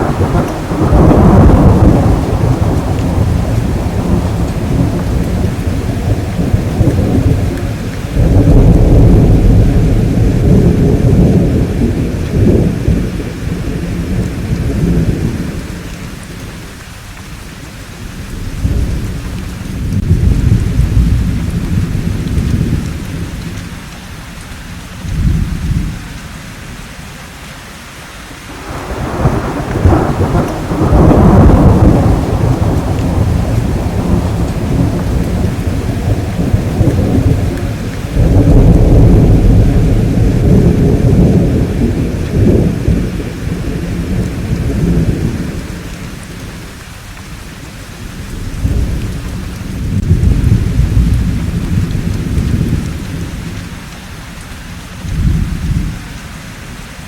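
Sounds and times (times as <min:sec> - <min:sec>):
rolling thunder: 0:00.0 - 0:16.7, 0:18.0 - 0:23.8, 0:25.0 - 0:26.1, 0:28.4 - 0:54.0, 0:55.0 - 0:56.0
steady rain: 0:00.0 - 0:57.0.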